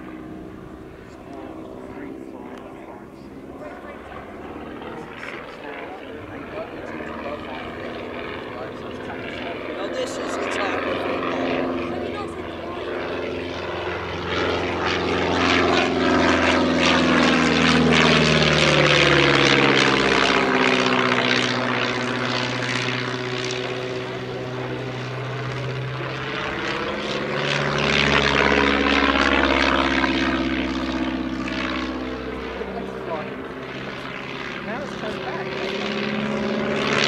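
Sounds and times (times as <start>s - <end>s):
biplane engine and propeller: 0.0s - 37.0s.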